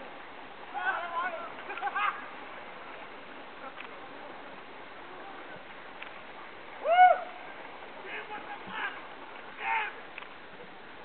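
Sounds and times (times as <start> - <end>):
water: 0.0 - 11.0.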